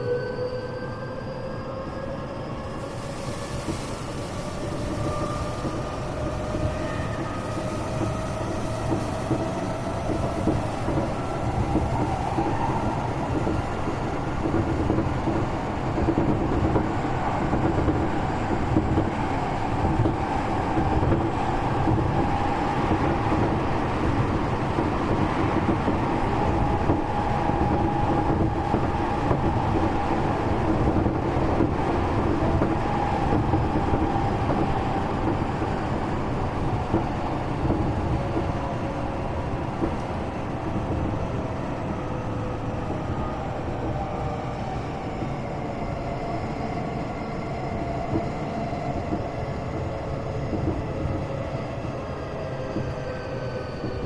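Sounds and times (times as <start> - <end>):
wheels rumbling on rail: 1.7 - 54.0.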